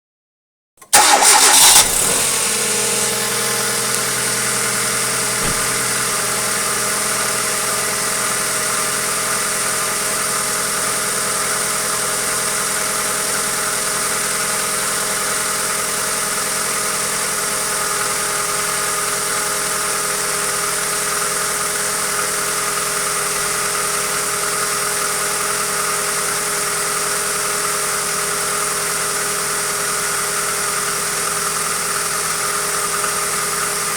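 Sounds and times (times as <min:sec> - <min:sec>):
car engine starting and idling: 0:00.8 - 0:33.9.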